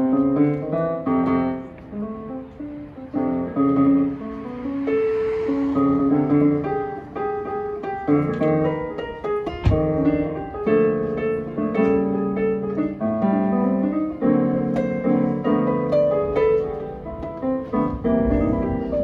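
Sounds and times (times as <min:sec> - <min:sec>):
piano chords and melody: 0:00.0 - 0:19.0.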